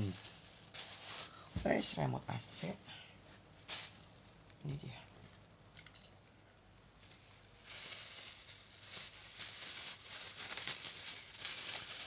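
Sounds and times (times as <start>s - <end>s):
plastic packaging crinkling: 0.0s - 2.8s, 3.4s - 12.0s.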